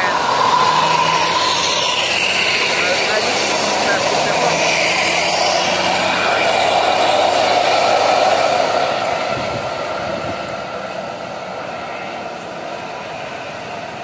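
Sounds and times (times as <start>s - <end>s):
buses pulling away: 0.0s - 14.0s.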